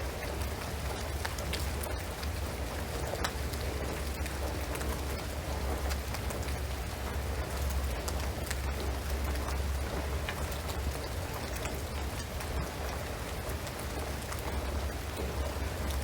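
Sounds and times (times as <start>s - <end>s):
rain on a shingled roof: 0.0s - 16.0s.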